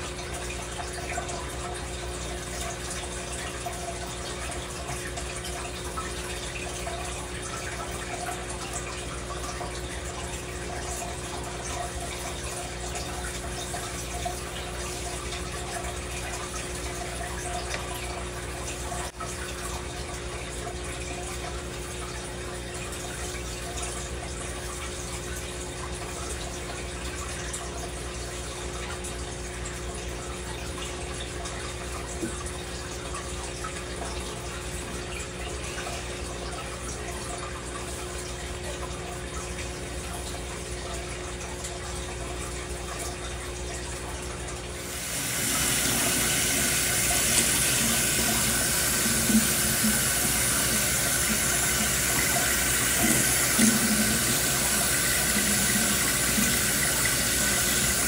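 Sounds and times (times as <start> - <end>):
tap water running into sink: 0.0 - 58.0.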